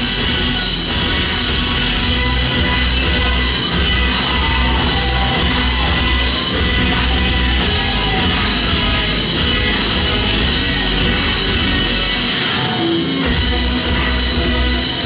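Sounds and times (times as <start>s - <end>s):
live rock music: 0.0s - 15.0s.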